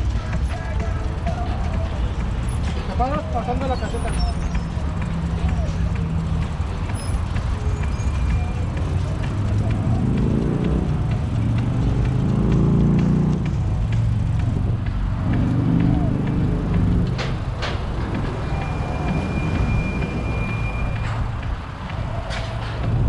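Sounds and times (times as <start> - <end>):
low traffic rumble: 0.0 - 23.0
motor vehicles passing: 0.0 - 23.0.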